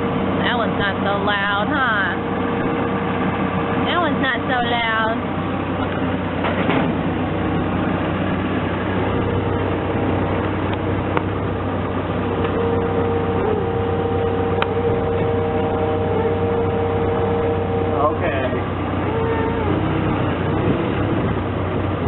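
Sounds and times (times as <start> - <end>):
steady high whine: 0.0 - 20.4
heavy equipment engine running: 0.0 - 22.0.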